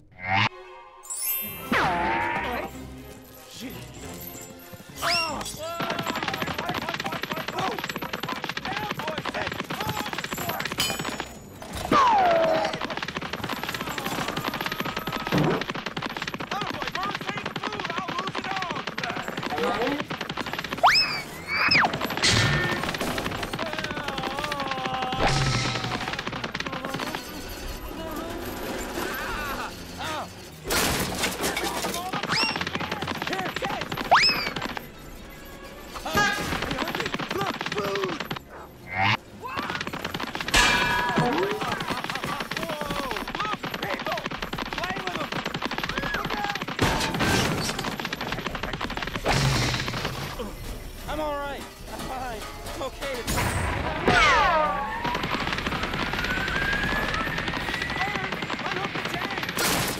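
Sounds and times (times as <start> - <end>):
fast rattling clatter: 5.6 - 38.5, 39.5 - 53.7, 54.9 - 59.9.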